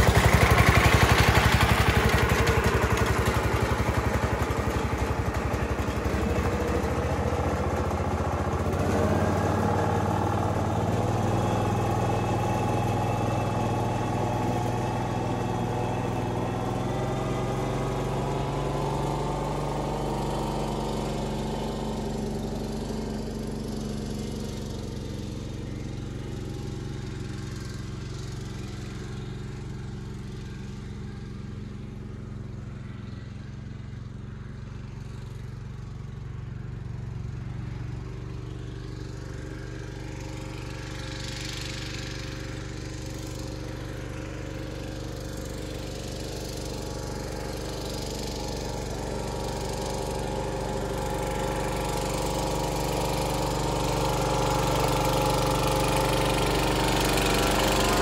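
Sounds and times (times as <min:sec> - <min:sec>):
garden tractor engine running: 0:00.0 - 0:58.0.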